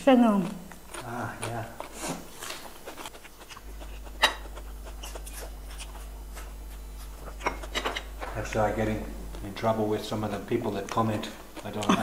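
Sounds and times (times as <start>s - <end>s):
low steady hum: 0.0s - 12.0s
chewing raw greens: 0.2s - 12.0s.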